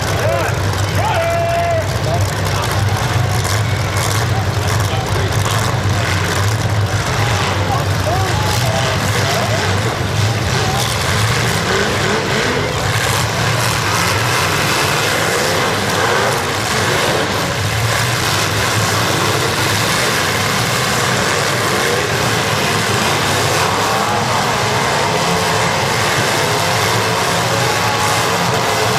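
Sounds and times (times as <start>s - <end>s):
car engines revving: 0.0s - 28.9s.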